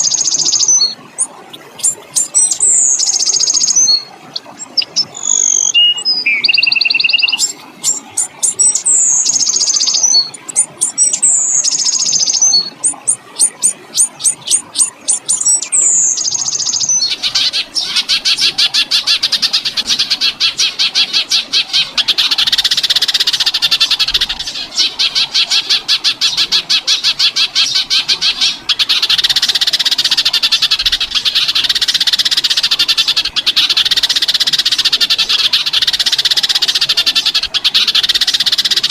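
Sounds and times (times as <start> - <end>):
songbird clicking and whistling: 0.0 - 18.6, 22.2 - 24.9, 27.6 - 38.9.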